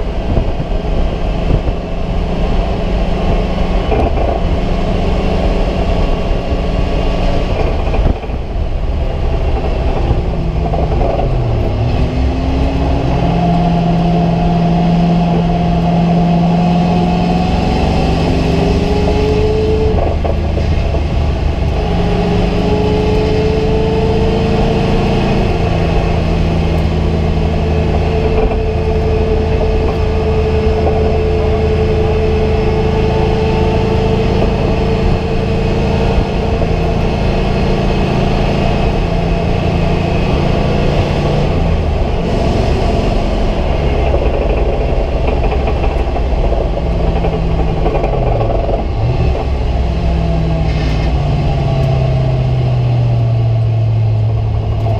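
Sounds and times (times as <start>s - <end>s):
race car engine accelerating: 0.0s - 54.9s
road and wind noise: 0.0s - 54.9s.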